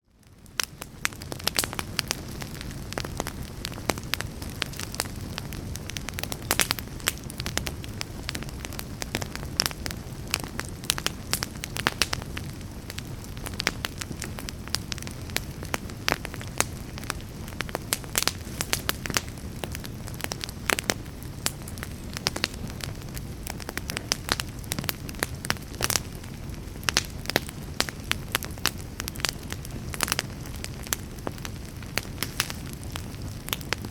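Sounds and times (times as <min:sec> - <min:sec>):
campfire crackling and popping: 0:00.0 - 0:33.9
low rumble of flames: 0:00.0 - 0:33.9.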